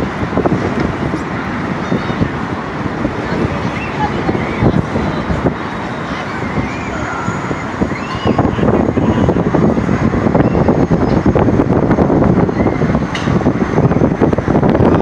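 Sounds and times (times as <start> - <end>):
faint voices: 0.0 - 15.0
wind buffeting microphone: 0.0 - 15.0.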